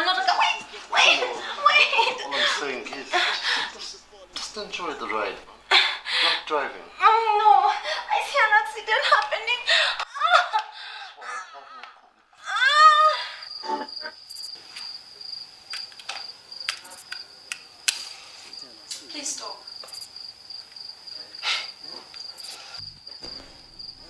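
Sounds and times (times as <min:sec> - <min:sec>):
crickets chirping: 0:00.0 - 0:11.4, 0:12.4 - 0:24.0.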